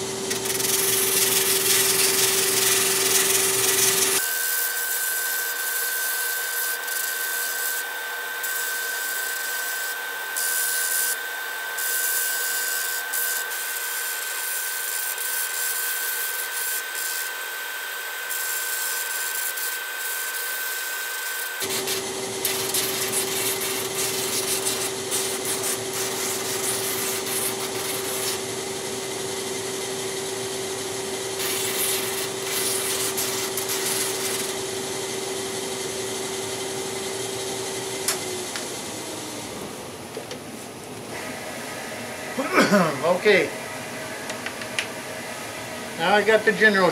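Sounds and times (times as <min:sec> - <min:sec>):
drum sander whining: 0:00.0 - 0:40.1.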